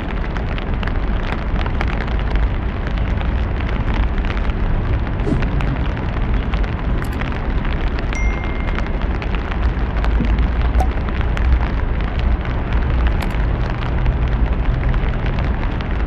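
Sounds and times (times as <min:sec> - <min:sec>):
deep low rumble: 0:00.0 - 0:16.0
heavy rain hissing: 0:00.0 - 0:16.0
sharp rain drop ticks: 0:00.0 - 0:16.0.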